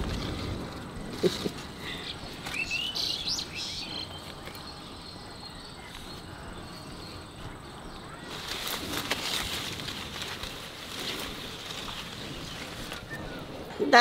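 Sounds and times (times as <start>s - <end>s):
birds chirping: 0.0s - 14.0s
insects buzzing: 0.0s - 14.0s.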